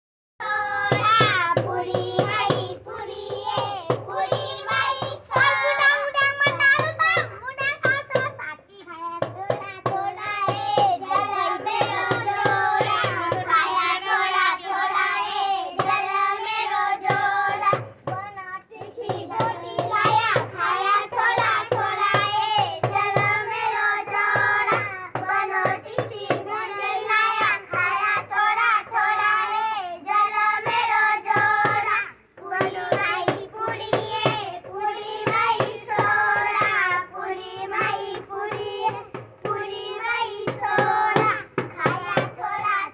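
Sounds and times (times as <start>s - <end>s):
children singing together: 0.4s - 7.5s, 9.6s - 42.9s.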